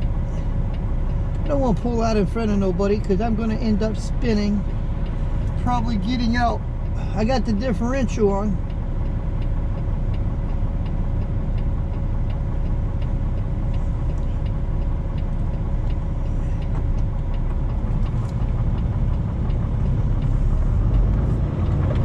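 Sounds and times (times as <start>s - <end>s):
diesel engine running: 0.0s - 22.0s
regular ticking: 0.0s - 22.0s.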